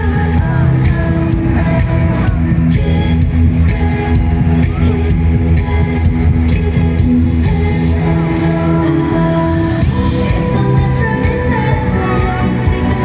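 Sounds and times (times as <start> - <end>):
live pop music: 0.0 - 13.0
woman singing: 0.0 - 13.0.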